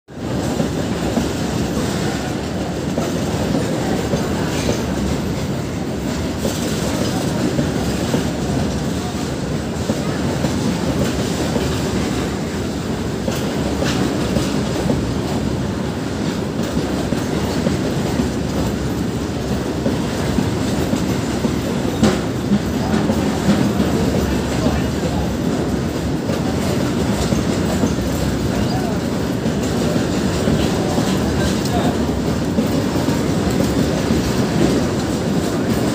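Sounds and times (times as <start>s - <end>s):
train wheels rumbling on rails: 0.1s - 35.9s.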